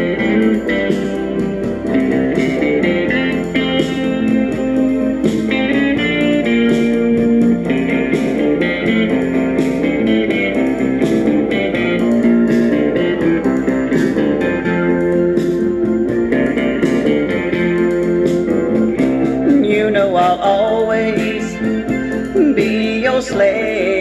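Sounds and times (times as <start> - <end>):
instrumental band music: 0.0 - 24.0
steady drum beat: 0.0 - 24.0.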